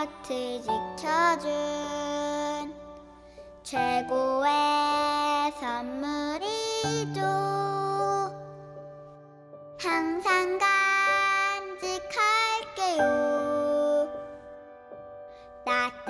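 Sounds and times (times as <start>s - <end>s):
person singing gentle children's song: 0.0s - 8.8s, 9.8s - 14.6s, 15.4s - 16.0s.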